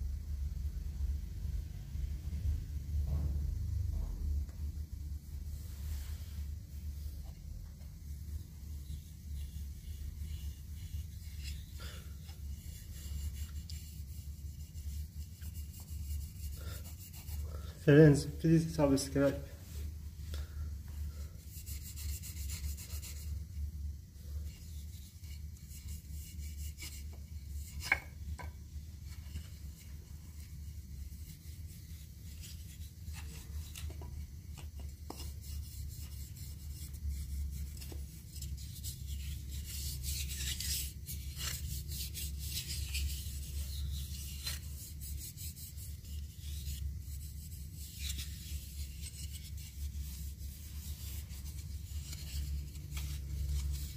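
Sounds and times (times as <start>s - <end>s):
steady low hum: 0.0s - 53.9s
hands rubbing wooden spoons: 5.6s - 19.8s, 21.1s - 23.6s, 24.2s - 53.9s.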